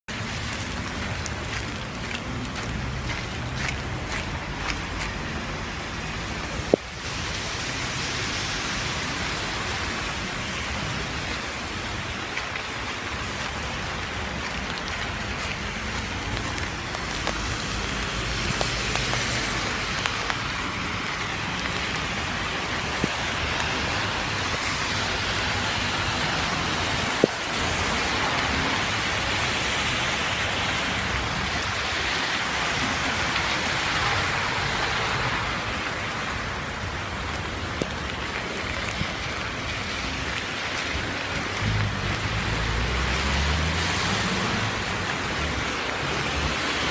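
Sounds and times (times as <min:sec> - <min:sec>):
hail pelting wet pavement: 0:00.1 - 0:46.9.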